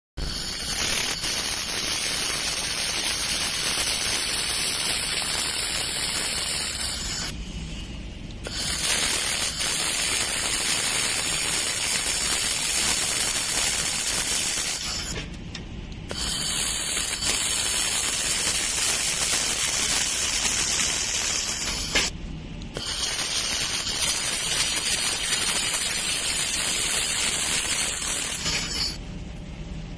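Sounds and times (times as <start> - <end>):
laser welder hissing and crackling: 0.2 - 7.4, 8.4 - 15.2, 16.0 - 22.2, 22.8 - 29.0.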